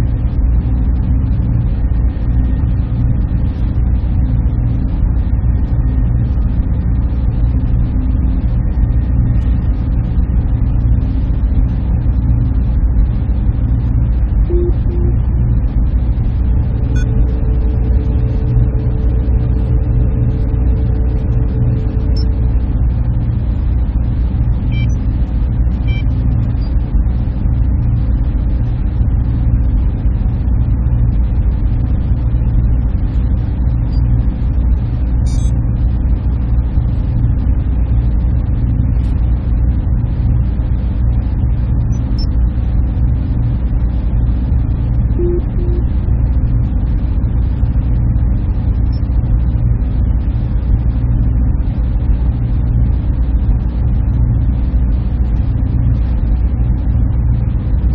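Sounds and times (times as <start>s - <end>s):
server machinery and fans humming: 0.0s - 57.9s.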